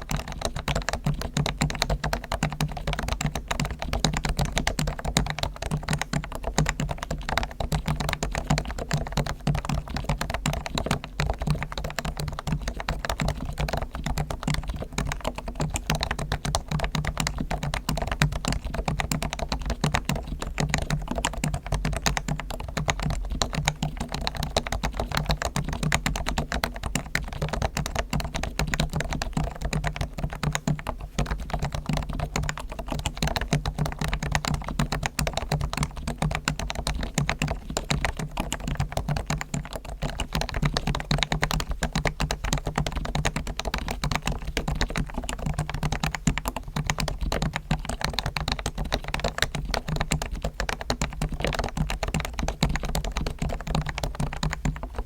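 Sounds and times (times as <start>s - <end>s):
fast keyboard typing: 0.0s - 55.0s.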